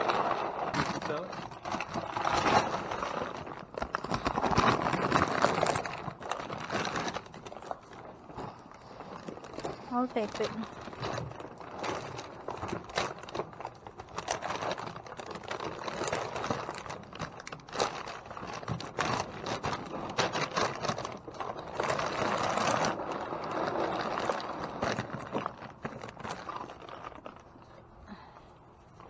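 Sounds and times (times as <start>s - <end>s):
plastic bag crinkling: 0.0s - 28.2s.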